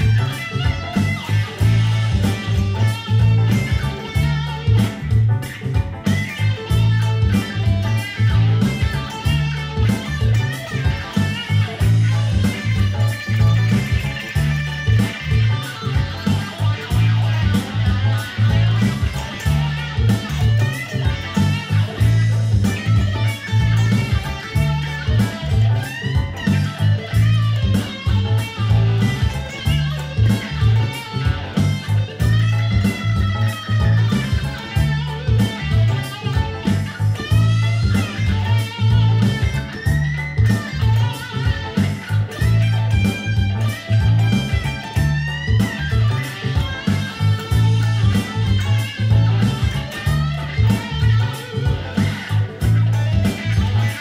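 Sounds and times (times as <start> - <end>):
funk electric guitar: 0.0 - 54.0
repeating bass line: 0.0 - 54.0.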